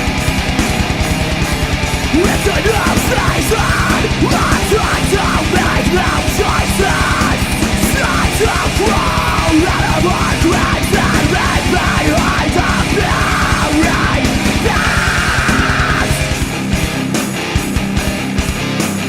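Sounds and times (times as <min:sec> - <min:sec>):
harsh shouted vocals: 0:00.0 - 0:17.0
distorted guitars: 0:00.0 - 0:19.0.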